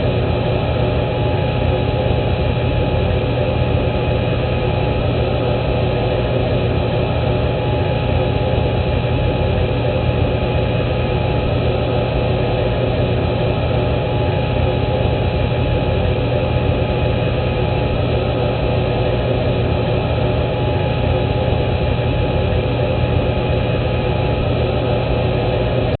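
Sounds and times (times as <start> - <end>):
muffled cockpit hum: 0.0 - 26.0.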